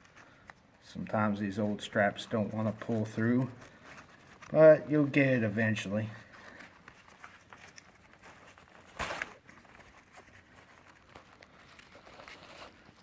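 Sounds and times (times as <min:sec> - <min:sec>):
rucksack straps rustling and scraping: 0:00.0 - 0:13.0.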